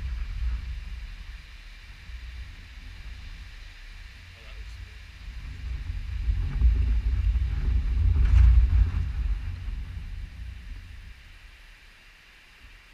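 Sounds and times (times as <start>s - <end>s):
storm wind buffeting microphone: 0.0s - 11.8s.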